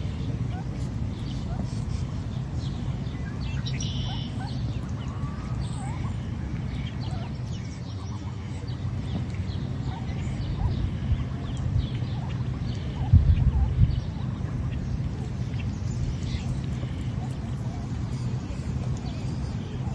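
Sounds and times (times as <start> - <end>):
birds chirping: 0.0 - 19.9
steady low rumble: 0.0 - 19.9
longer curved bird calls: 0.5 - 19.9.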